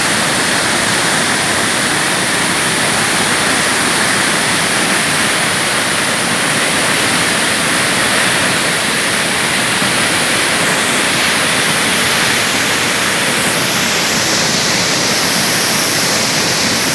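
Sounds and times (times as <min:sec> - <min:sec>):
waterfall rushing: 0:00.0 - 0:16.9.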